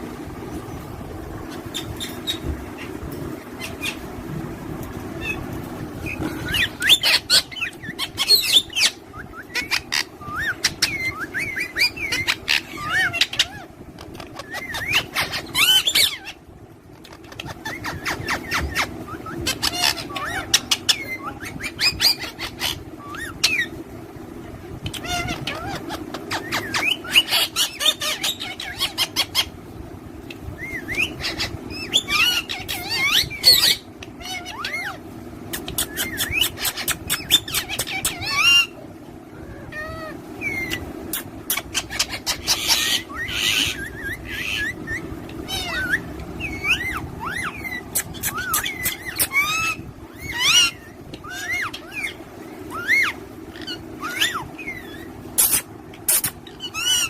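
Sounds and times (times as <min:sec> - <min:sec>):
parrots chirping and calling: 0:00.0 - 0:57.0.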